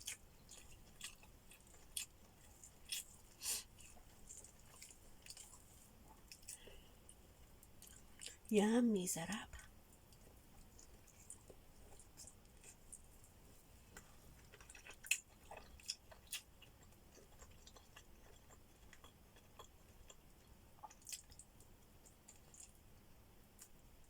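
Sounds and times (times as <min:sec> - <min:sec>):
person chewing food: 0:00.0 - 0:08.5, 0:09.6 - 0:23.8.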